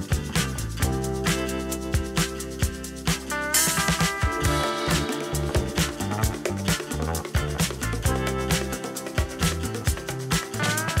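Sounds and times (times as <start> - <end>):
music with drum beat and bass: 0.0 - 11.0.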